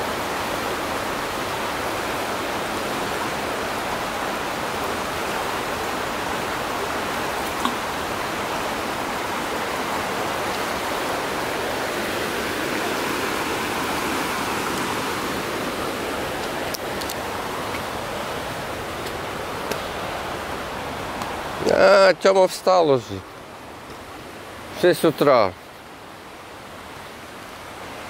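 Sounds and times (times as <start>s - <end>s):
river rushing over rocks: 0.0s - 28.0s.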